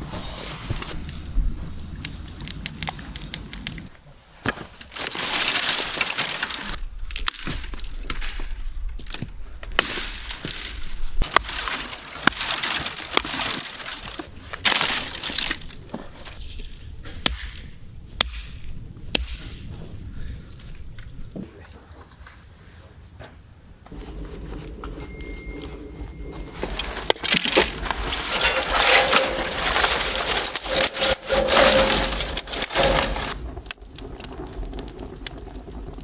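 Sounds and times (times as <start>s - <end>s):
crunching and scraping in a bowl: 0.0s - 17.4s, 23.9s - 36.0s.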